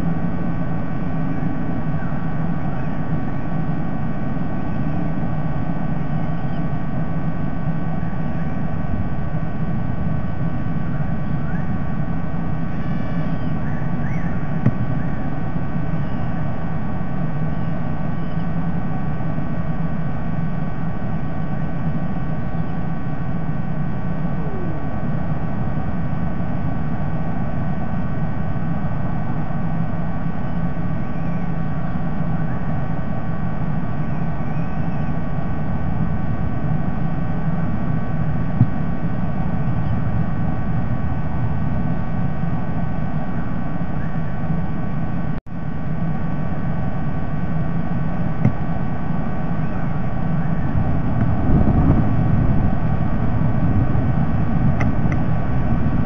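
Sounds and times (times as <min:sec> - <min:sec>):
faint electrical hum: 0:00.0 - 0:56.0
low rumble and hiss: 0:00.0 - 0:56.0.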